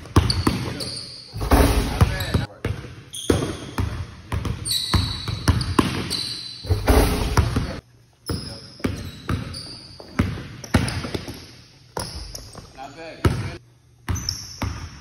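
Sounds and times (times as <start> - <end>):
basketball bouncing on wooden floor: 0.0 - 0.8, 1.4 - 13.5.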